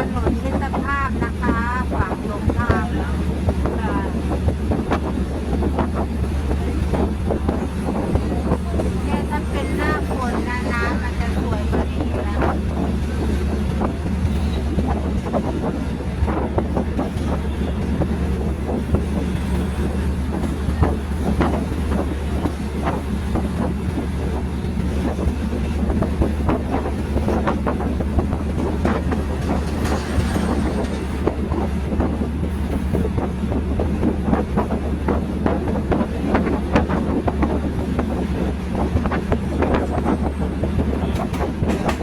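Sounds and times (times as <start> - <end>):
train rumbling on rails: 0.0 - 42.0.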